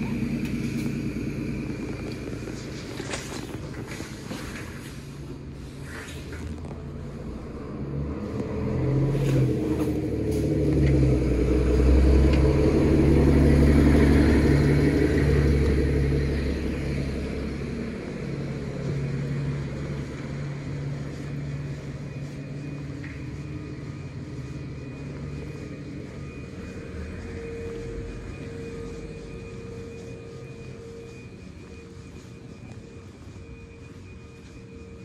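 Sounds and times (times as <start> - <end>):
steady engine hum: 0.0 - 35.0
vehicle engine rumble: 0.0 - 35.0.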